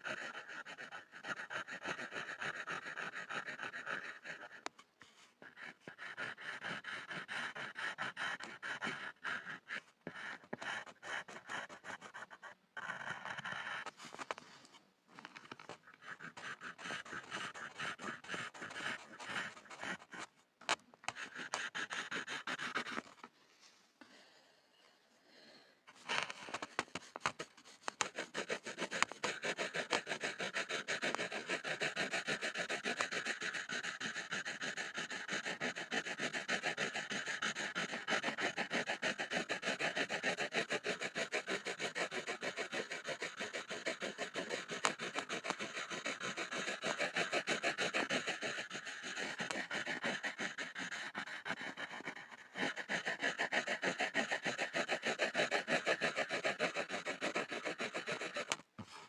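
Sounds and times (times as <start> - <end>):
pencil scribbling on a board: 0.0 - 23.3, 26.0 - 59.0.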